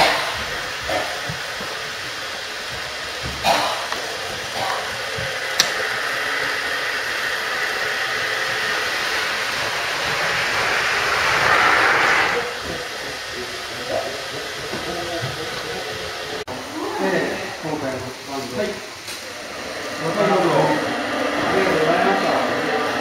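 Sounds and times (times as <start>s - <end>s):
model train whirring and rolling: 0.0s - 23.0s.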